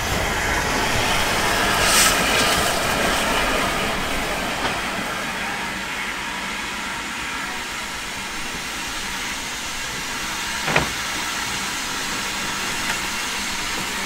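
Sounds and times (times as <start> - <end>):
steam hissing: 0.0 - 14.0.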